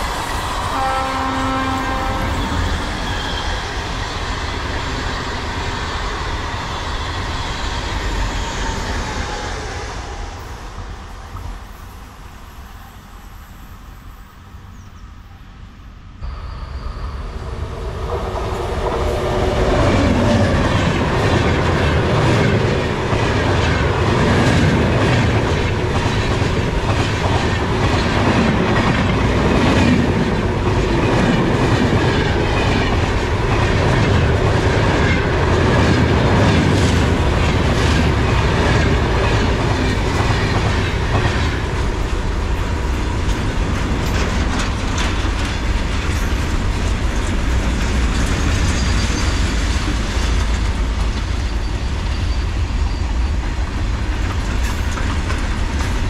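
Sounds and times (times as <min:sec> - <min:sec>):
electric train passing: 0:00.0 - 0:56.0.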